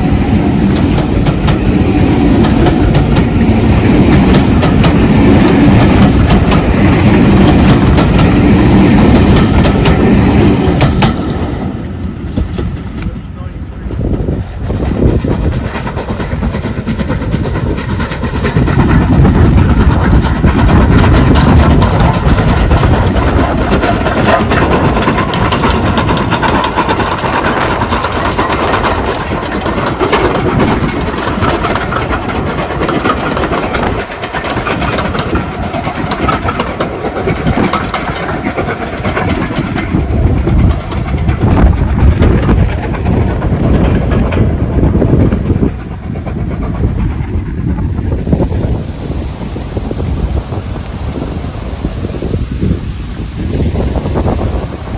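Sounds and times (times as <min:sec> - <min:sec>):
steam train rumbling: 0:00.0 - 0:54.9
wheels clicking over rail joints: 0:00.0 - 0:54.9.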